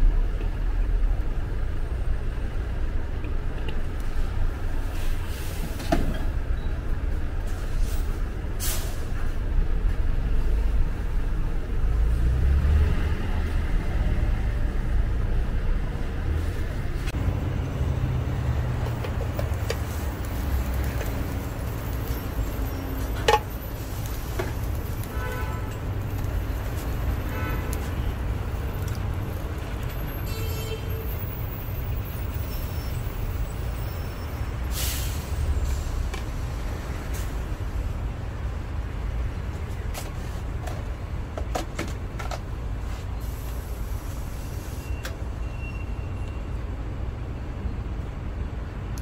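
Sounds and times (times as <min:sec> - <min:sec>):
street traffic rumble: 0:00.0 - 0:49.0.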